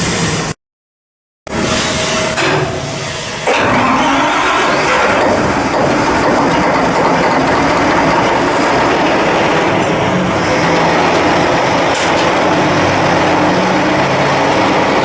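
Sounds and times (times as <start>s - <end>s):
loud machinery noise: 1.5s - 15.0s.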